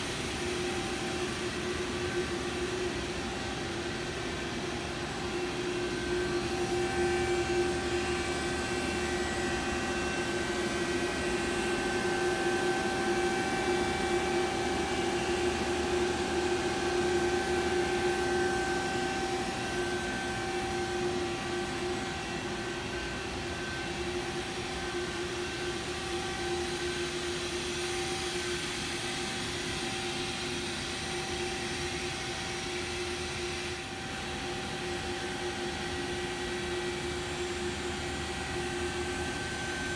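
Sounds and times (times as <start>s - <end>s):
machine hum with whine: 0.0s - 39.9s.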